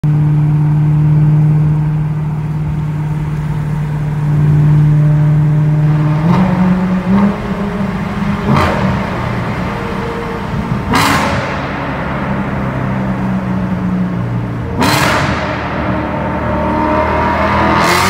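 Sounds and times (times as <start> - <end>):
car engine cruising from cabin: 0.0 - 18.0.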